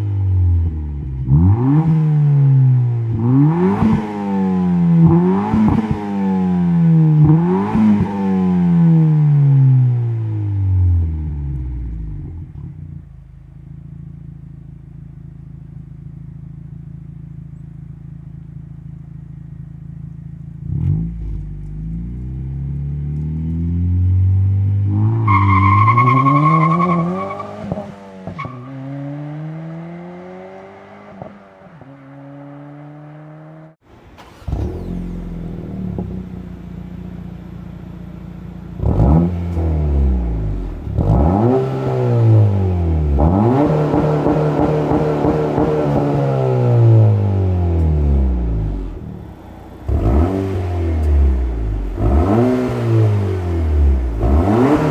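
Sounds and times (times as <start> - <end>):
car exhaust idling and revving: 0.0 - 32.4, 33.7 - 54.9.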